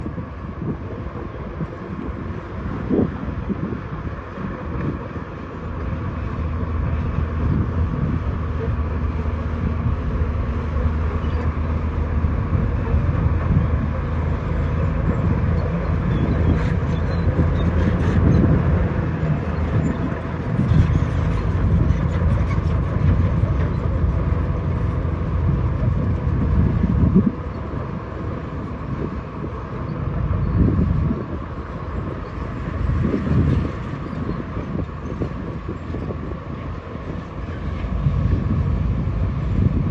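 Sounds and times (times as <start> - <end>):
heavy diesel machinery rumble: 0.0 - 39.9.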